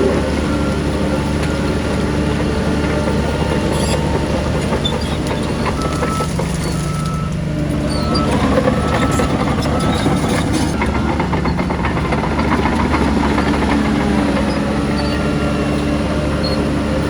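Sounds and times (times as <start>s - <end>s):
reversing alarm beeping: 0.0s - 15.8s
heavy diesel machinery running: 0.0s - 17.0s.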